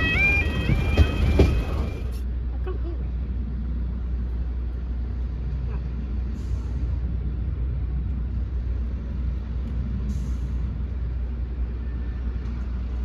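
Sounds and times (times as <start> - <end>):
diesel railcar engine rumbling: 0.0 - 13.0.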